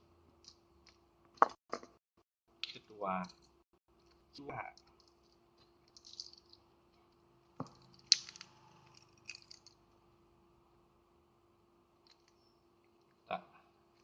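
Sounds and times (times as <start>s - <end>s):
faint steady hum: 2.5s - 14.0s.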